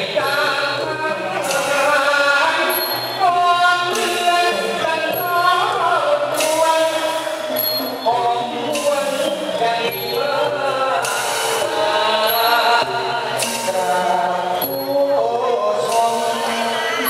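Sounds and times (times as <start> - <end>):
person singing long notes: 0.0 - 17.0.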